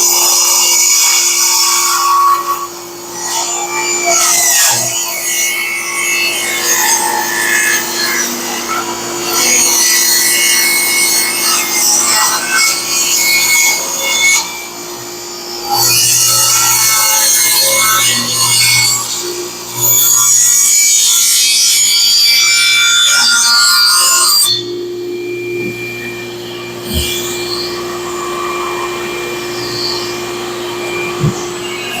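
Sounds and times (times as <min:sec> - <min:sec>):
power saw cutting wood: 0:00.0 - 0:32.0.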